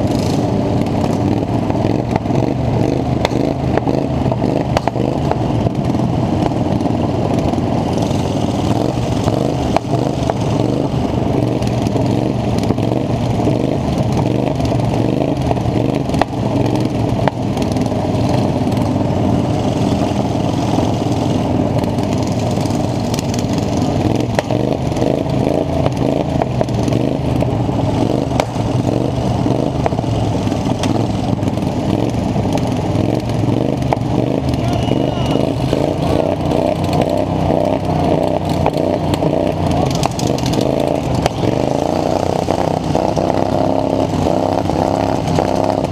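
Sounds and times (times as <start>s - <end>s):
small engine running hard: 0.0s - 45.9s.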